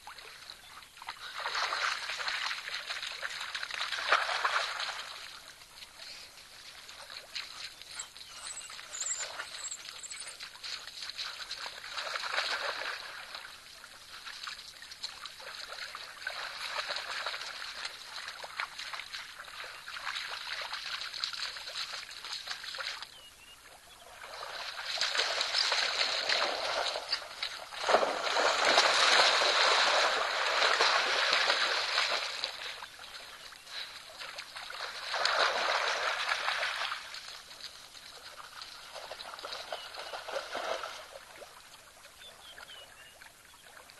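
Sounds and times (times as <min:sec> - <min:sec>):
water splashing and sloshing: 0:00.0 - 0:43.9.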